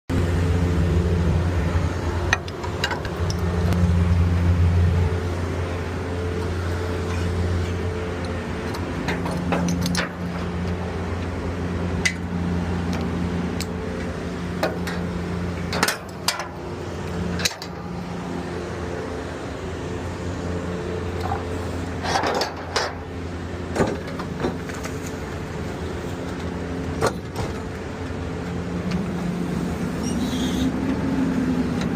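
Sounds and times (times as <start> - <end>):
diesel truck engine running: 0.1 - 31.9
hydraulics lifting: 0.1 - 31.9.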